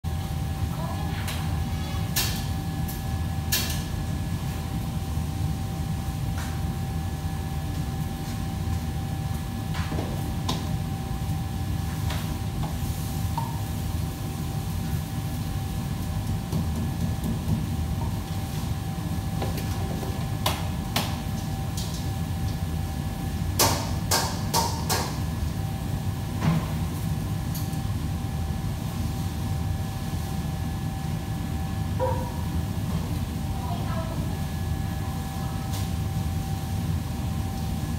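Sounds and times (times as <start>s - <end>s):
kitchen fans humming: 0.0s - 37.9s.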